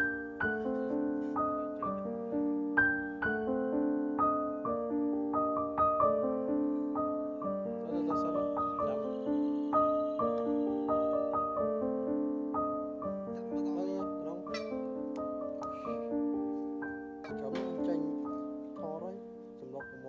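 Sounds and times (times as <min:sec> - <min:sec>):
slow gentle piano melody: 0:00.0 - 0:20.0.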